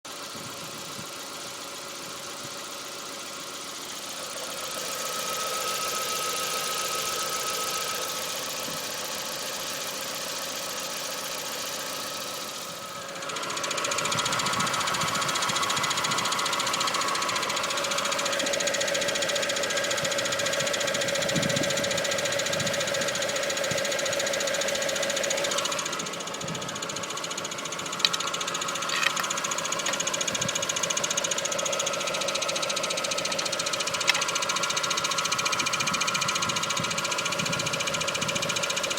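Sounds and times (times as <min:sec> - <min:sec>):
car engine idling: 0:00.1 - 0:38.9.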